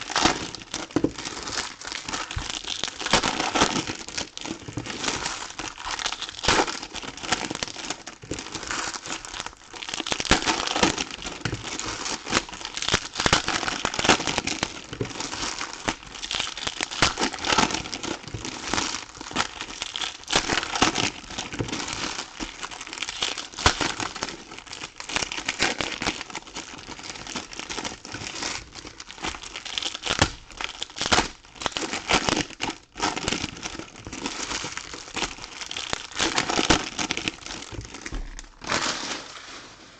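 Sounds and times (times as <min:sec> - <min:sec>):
plastic and foil wrappers crinkling: 0:00.0 - 0:39.9.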